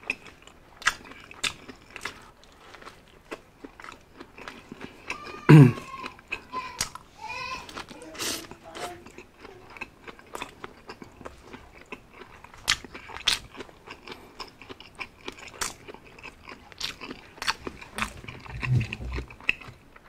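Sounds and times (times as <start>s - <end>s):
chewing with wet mouth clicks: 0.0s - 5.2s, 9.0s - 20.0s.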